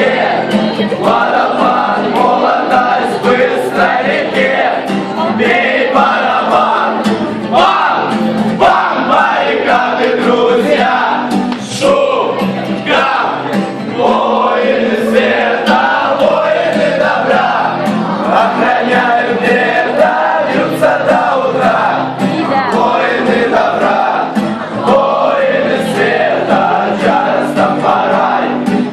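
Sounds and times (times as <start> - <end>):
group of men singing: 0.0 - 28.9
strummed acoustic guitar: 0.0 - 28.9.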